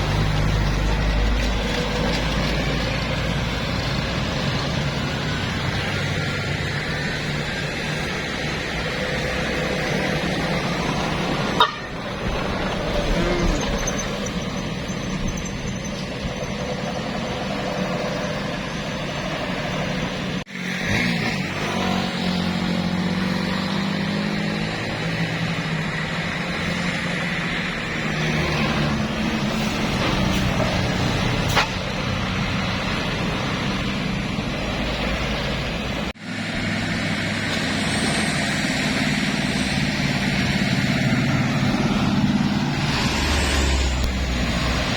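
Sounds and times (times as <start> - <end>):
heavy diesel vehicles driving past: 0.0 - 44.9.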